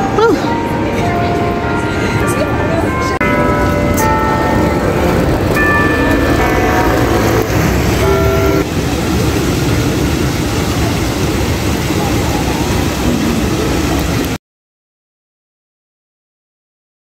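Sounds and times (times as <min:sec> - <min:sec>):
traffic noise: 0:00.0 - 0:14.4.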